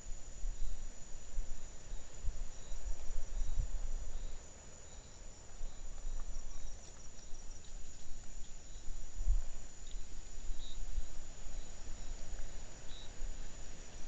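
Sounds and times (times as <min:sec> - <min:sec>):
insect trilling: 0:01.6 - 0:14.0.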